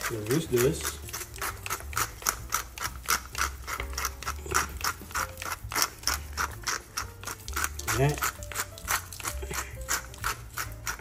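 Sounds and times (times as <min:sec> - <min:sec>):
pepper mill grinding: 0:00.0 - 0:11.0.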